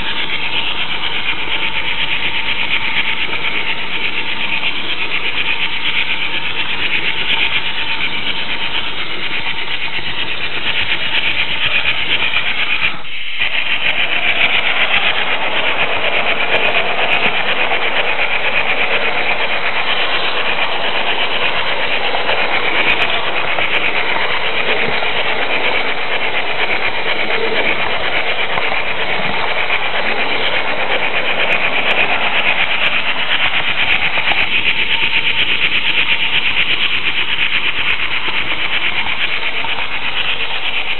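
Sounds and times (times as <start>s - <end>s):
model train rolling on track: 0.0s - 40.9s.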